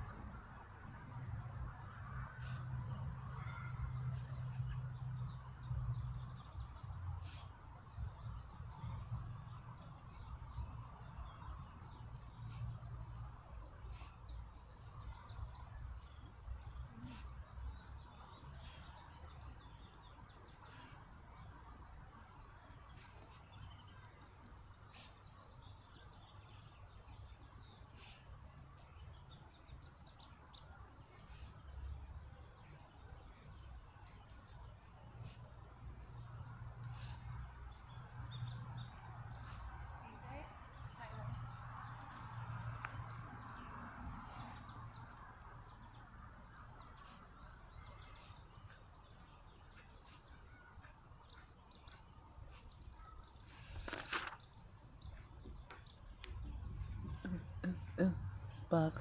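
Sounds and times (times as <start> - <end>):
small birds chirping: 0.5 - 59.0.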